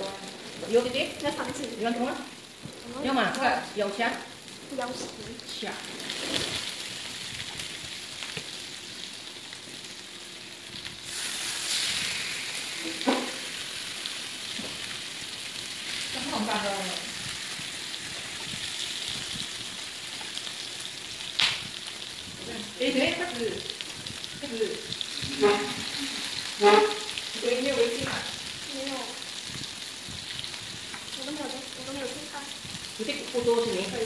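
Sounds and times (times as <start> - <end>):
food sizzling on a grill plate: 0.0 - 34.0.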